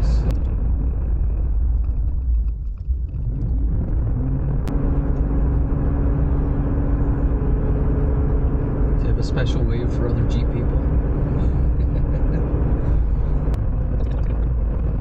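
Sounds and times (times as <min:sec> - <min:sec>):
engine hum: 0:00.0 - 0:15.0
road noise rumble: 0:00.0 - 0:15.0.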